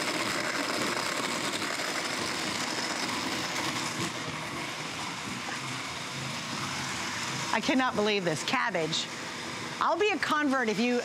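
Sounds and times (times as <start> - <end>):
blender motor churning ice: 0.0 - 11.0.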